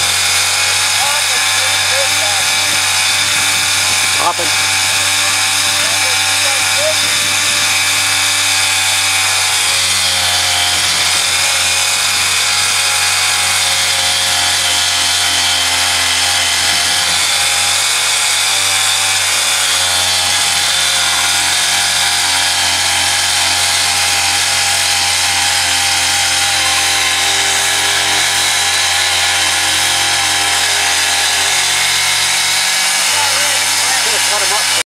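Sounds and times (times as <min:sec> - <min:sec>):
winch motor whine: 0:00.0 - 0:34.8.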